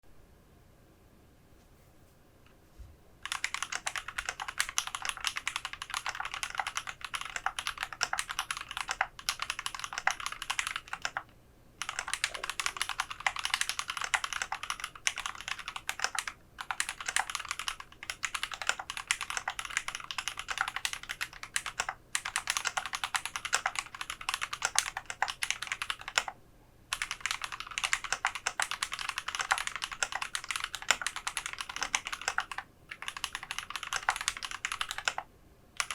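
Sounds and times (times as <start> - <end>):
mechanical keyboard typing: 3.2 - 35.9.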